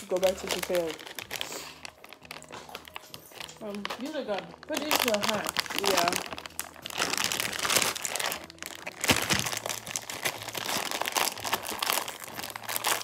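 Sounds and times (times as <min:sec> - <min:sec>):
plastic snack bag crinkling: 0:00.0 - 0:13.0.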